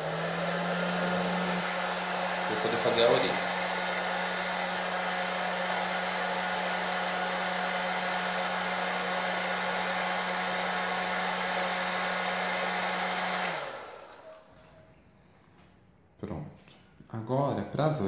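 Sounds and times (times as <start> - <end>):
hair dryer blowing: 0.0 - 14.5
hair dryer winding down: 0.0 - 14.5.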